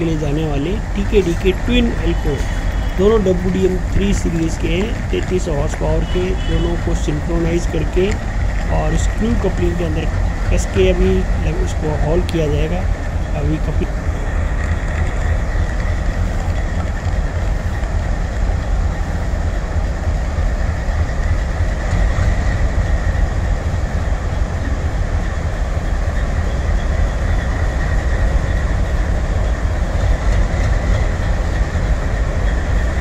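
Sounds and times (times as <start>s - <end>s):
diesel locomotive engines rumbling: 0.0s - 33.0s
thin high whine: 0.0s - 33.0s.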